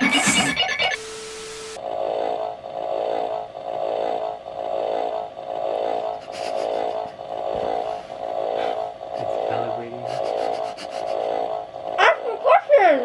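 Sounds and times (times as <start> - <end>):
pulsing electronic hum: 0.0 - 13.0
steady low tone: 1.0 - 12.5.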